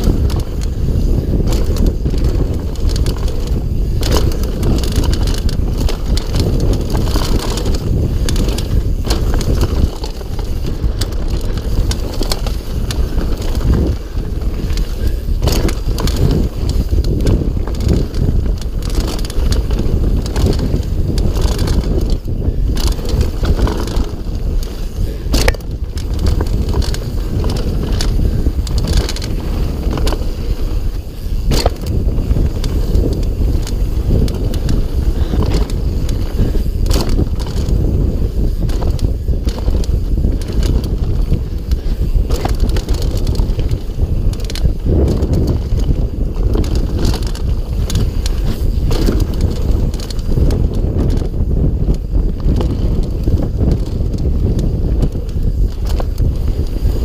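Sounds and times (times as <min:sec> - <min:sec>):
bike rattling: 0:00.0 - 0:57.0
tyres rumbling over gravel: 0:00.0 - 0:57.0
wheels knocking on rocks: 0:00.0 - 0:57.0
wind on microphone: 0:00.0 - 0:57.0.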